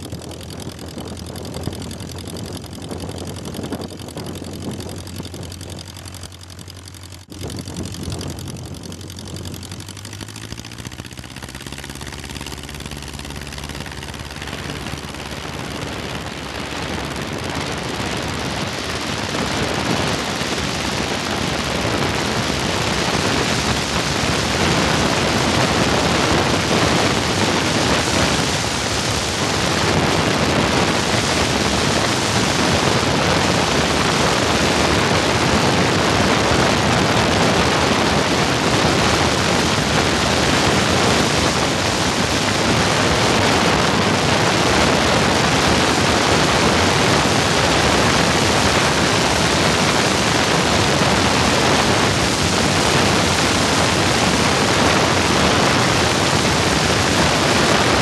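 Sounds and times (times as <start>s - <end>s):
airplane engine: 0.0s - 58.0s
wind and propeller blast: 0.0s - 58.0s.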